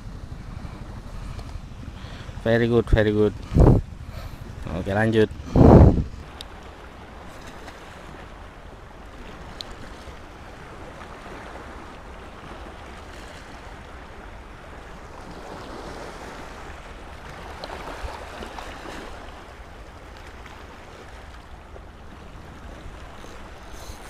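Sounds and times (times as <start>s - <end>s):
sea washing against rocks: 0.0s - 24.0s
wind rumbling on microphone: 0.0s - 24.0s.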